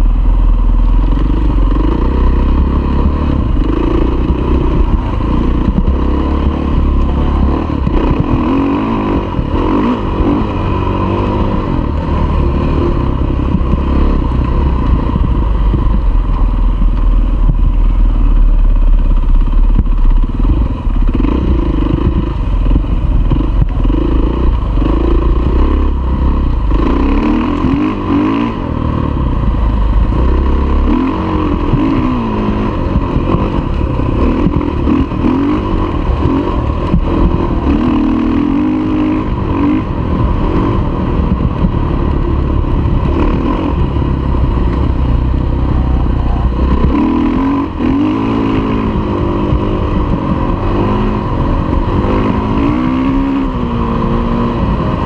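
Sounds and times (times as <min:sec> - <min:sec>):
heavy low rumble: 0:00.0 - 0:55.0
dirt bike engine revving: 0:00.9 - 0:16.4, 0:17.2 - 0:55.0.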